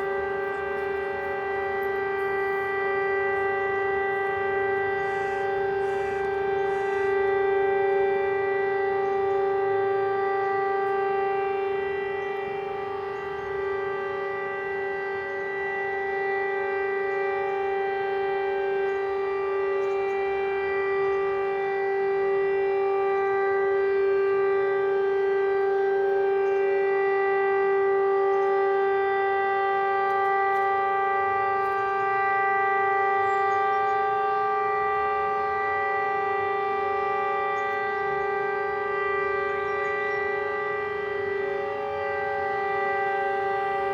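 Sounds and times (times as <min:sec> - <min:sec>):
warning siren steady tone: 0:00.0 - 0:43.9.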